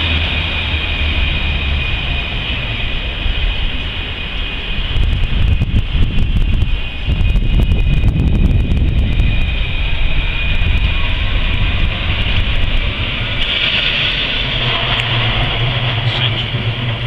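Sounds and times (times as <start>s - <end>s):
tram approaching on street track: 0.0s - 17.0s
wind rumble on microphone: 0.0s - 17.0s.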